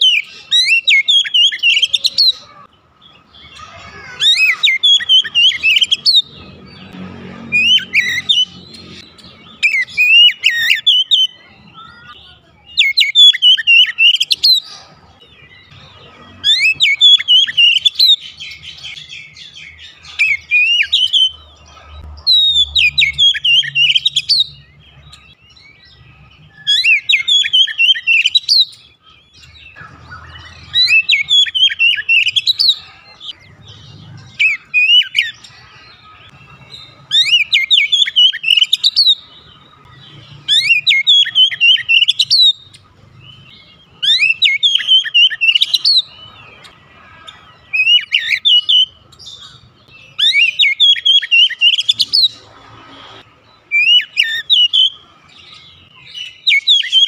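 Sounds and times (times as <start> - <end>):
bird singing whistled notes: 0.0 - 2.5, 7.6 - 21.4, 22.2 - 32.8, 33.4 - 46.8, 47.6 - 57.0.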